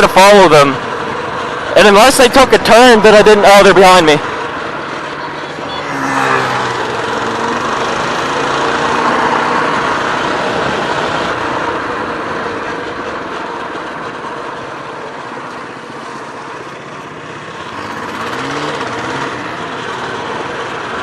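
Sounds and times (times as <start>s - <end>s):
small motorbike engine running: 4.0s - 21.0s.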